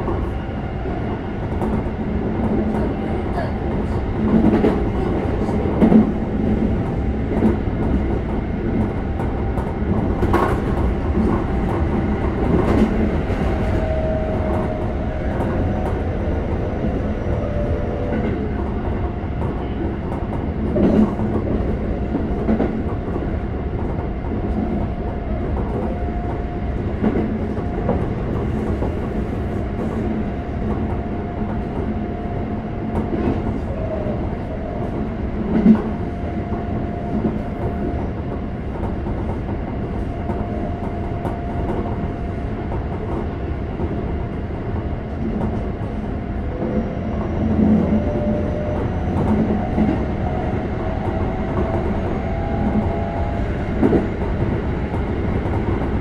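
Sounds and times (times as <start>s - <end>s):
rail joint clack: 0.0s - 56.0s
train wheels rumbling on rail: 0.0s - 56.0s.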